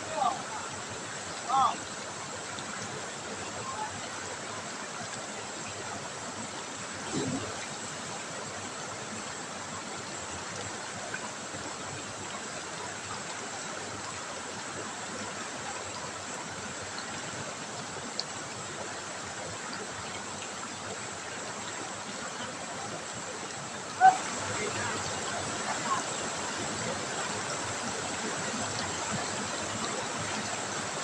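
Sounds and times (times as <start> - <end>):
river water rushing over stones: 0.0 - 31.0.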